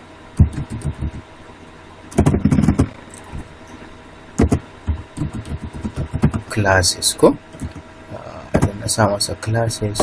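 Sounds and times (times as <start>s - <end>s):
computer hum: 0.0s - 10.0s.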